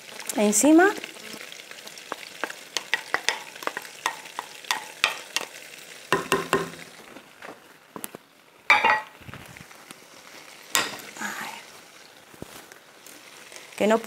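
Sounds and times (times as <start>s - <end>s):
meatballs sizzling in hot oil: 0.0s - 14.0s
oil crackling and popping: 0.0s - 14.0s.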